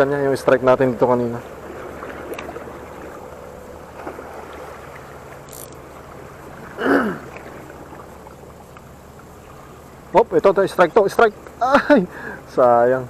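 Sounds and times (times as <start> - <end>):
sea water at shoreline: 0.0 - 13.0
wind: 0.0 - 13.0.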